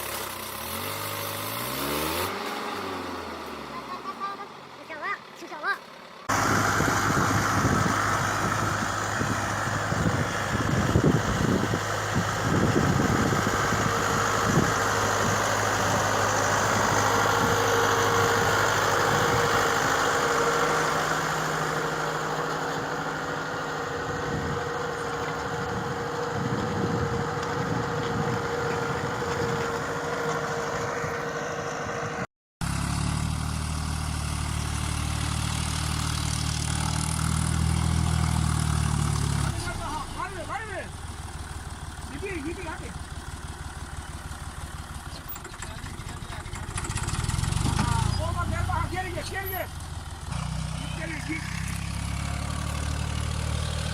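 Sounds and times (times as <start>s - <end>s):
tractor engine running: 0.0s - 53.9s
engine low steady hum: 2.8s - 53.9s.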